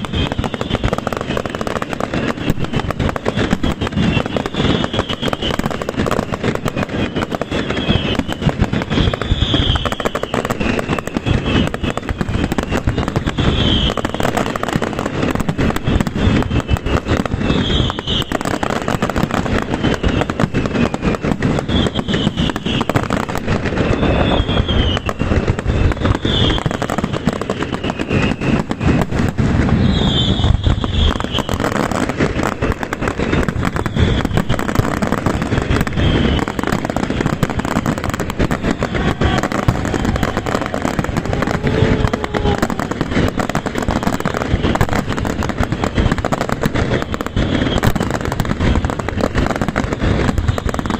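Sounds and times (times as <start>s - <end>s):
fireworks bangs and crackling: 0.0s - 50.9s
high-pitched firework whistles: 0.0s - 50.9s.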